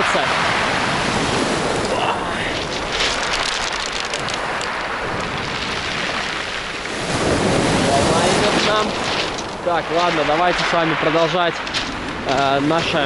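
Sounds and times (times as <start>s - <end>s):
surf washing up beach: 0.0s - 13.0s
clattering pebbles: 2.5s - 13.0s.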